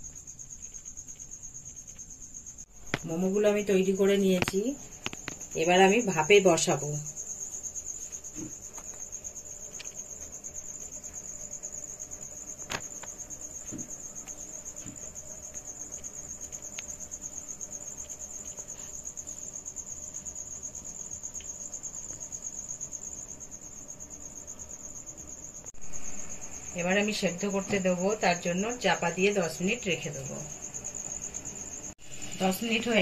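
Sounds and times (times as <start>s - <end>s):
cricket trilling: 0.0s - 33.0s.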